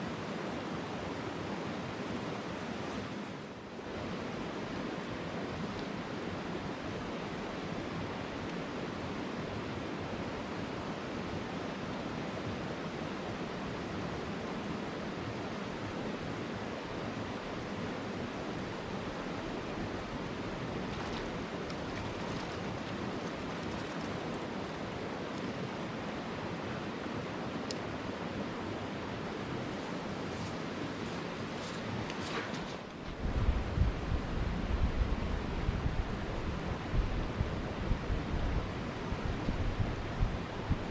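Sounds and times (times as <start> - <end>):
stream water rushing: 0.0 - 33.1.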